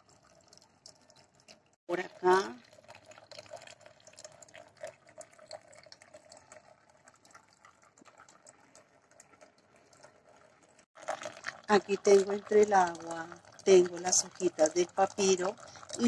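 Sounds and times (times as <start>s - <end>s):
faint trickling water: 0.0s - 16.0s
water drips: 0.0s - 16.0s.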